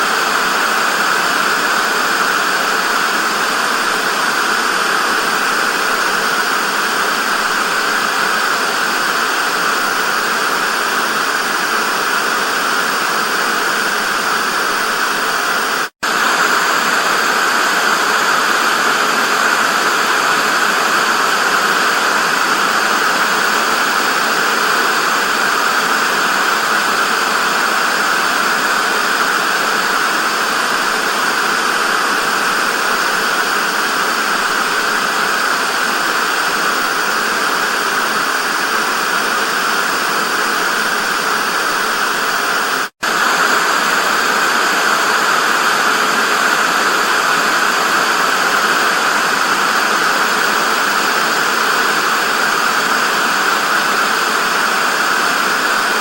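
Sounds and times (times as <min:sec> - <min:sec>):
tv static hiss: 0:00.0 - 0:56.0.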